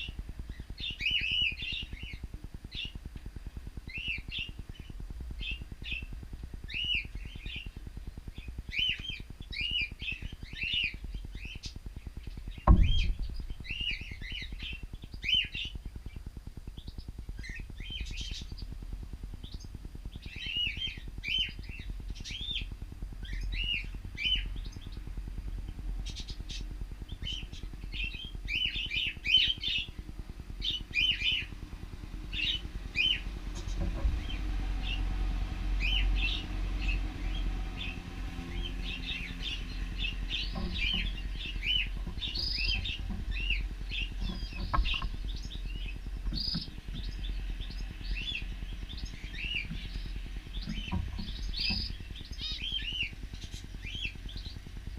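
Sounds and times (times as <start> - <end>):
steady low rumble: 0.0 - 54.9.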